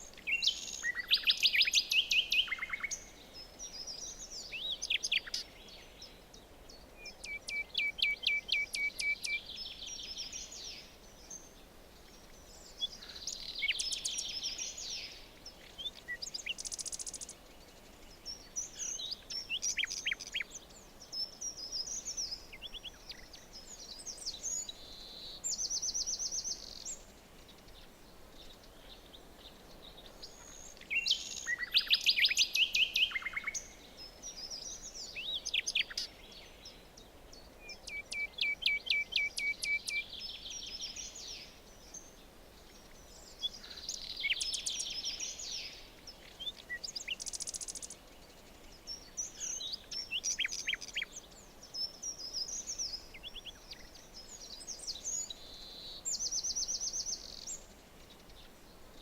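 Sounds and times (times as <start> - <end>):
faint background hiss: 0.0 - 59.0
songbirds singing: 0.0 - 59.0.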